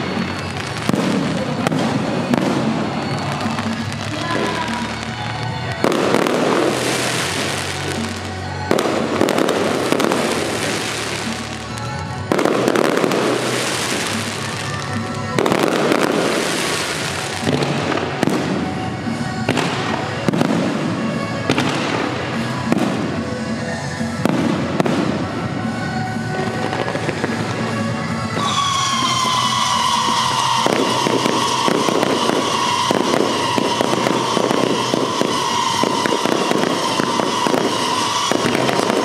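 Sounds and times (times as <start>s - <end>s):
firework crackling hiss: 0.0s - 25.7s, 26.3s - 39.0s.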